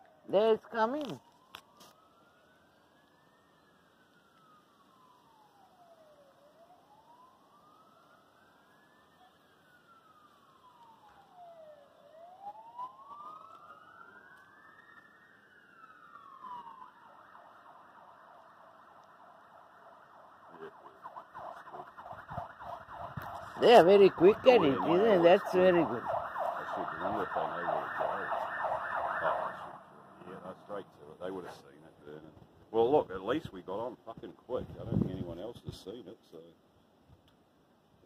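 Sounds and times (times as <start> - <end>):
fire engine siren wailing and yelping: 0.0 - 31.7.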